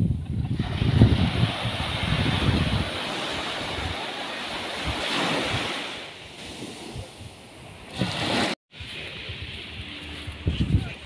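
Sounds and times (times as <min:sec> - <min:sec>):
wind buffeting microphone: 0:00.0 - 0:08.1, 0:08.8 - 0:11.0
waves washing up a sandy shore: 0:00.4 - 0:10.4.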